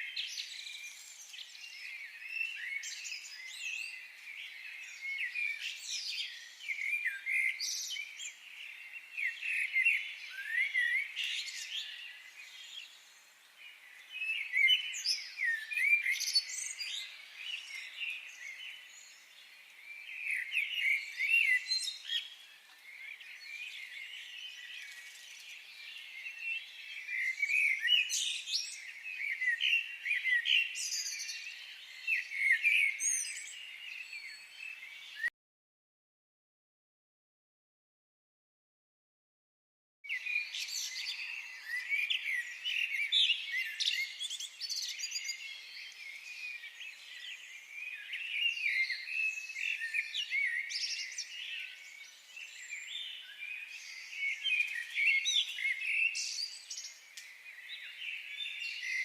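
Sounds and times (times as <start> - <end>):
birds chirping and singing: 0.0 - 35.3, 40.1 - 59.0.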